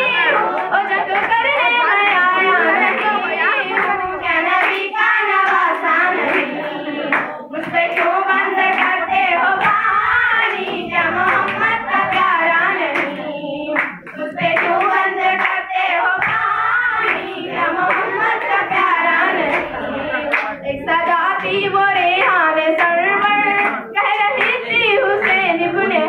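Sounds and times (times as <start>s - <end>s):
girls singing together: 0.0s - 26.0s
hand claps: 0.4s - 6.5s, 7.1s - 9.0s, 9.6s - 13.2s, 13.8s - 19.7s, 20.3s - 26.0s.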